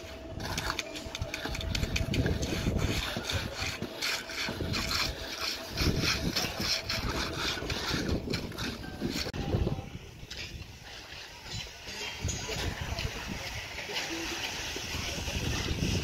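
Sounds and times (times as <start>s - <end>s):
trowel scraping wet concrete: 0.0s - 9.6s, 10.2s - 16.0s.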